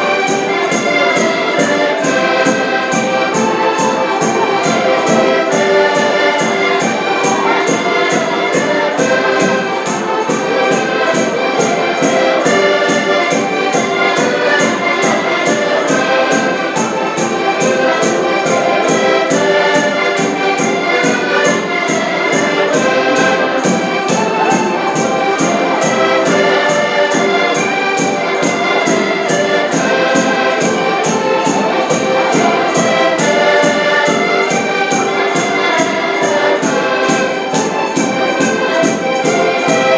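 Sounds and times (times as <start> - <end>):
accordions playing folk music: 0.0 - 39.9.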